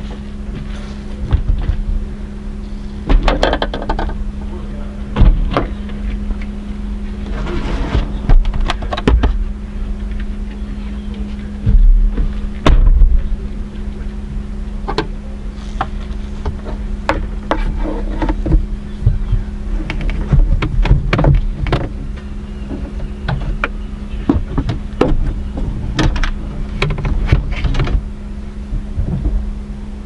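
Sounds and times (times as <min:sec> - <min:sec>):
knocks clicks and clunks: 0:00.0 - 0:02.0, 0:03.0 - 0:04.2, 0:05.1 - 0:29.5
car low hum inside cabin: 0:00.0 - 0:30.0.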